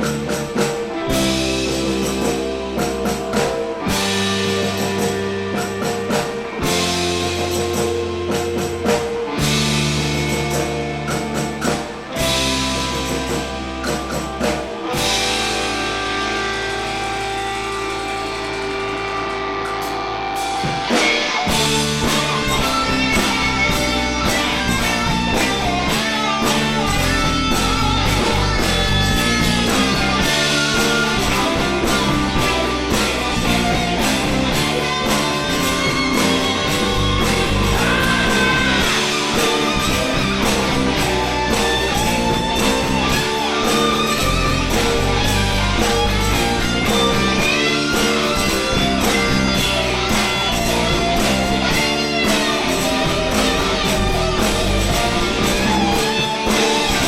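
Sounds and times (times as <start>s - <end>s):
drum beat: 0.0s - 15.9s, 20.6s - 57.0s
bass: 0.0s - 57.0s
electric guitar: 0.0s - 57.0s.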